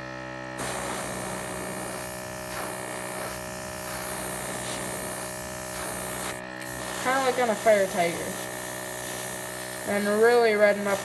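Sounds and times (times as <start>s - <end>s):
compressor motor hum: 0.0s - 11.0s
airbrush air hiss: 0.6s - 11.0s.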